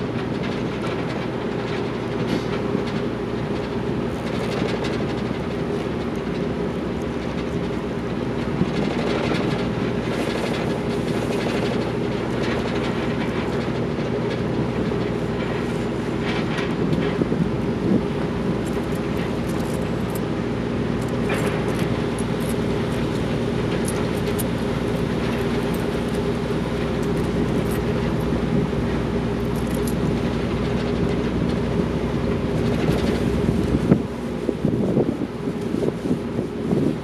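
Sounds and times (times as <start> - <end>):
ship engines droning: 0.0 - 37.0.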